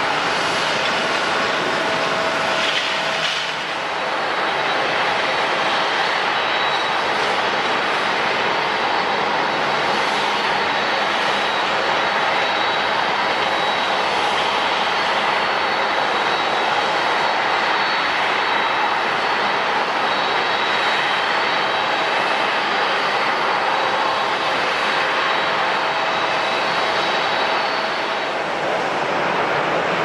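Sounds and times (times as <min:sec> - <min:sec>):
high engine whine: 0:00.0 - 0:30.0
jet engines roaring: 0:00.0 - 0:30.0.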